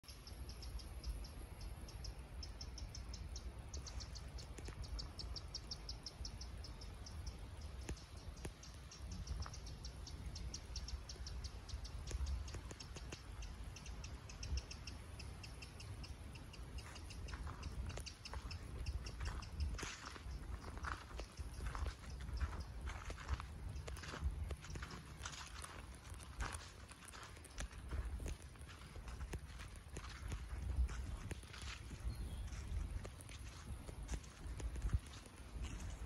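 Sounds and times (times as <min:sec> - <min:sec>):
lower bird chirps: 0:00.0 - 0:36.0
high bird chirps: 0:00.1 - 0:35.9.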